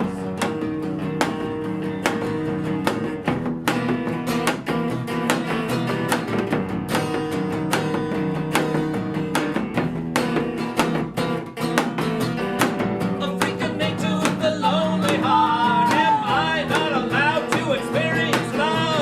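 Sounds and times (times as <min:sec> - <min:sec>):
strummed guitar: 0:00.0 - 0:19.0.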